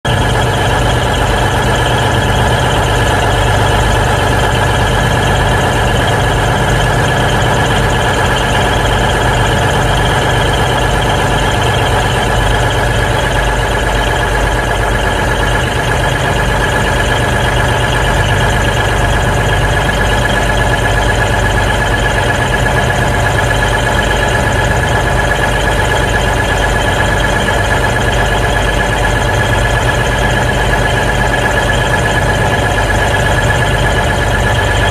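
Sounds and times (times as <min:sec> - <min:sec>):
diesel engine idling: 0:00.0 - 0:34.9
steady high whine: 0:00.0 - 0:34.9.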